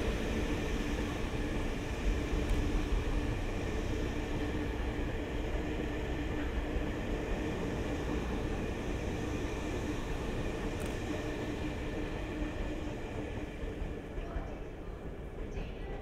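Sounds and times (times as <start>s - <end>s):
constant hum: 0.0s - 16.0s
train running on rails: 0.0s - 16.0s.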